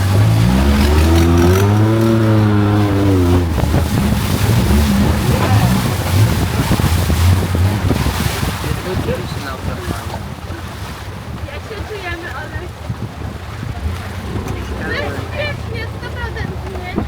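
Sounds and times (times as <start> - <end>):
boat engine revving: 0.0 - 17.0
water splashing and churning: 0.0 - 17.0.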